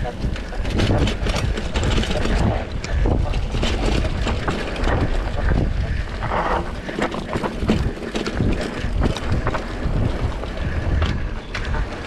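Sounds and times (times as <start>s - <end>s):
bike clattering over bumps: 0.0s - 12.0s
bike tyres rumbling on dirt: 0.0s - 12.0s
wind on microphone: 0.0s - 12.0s.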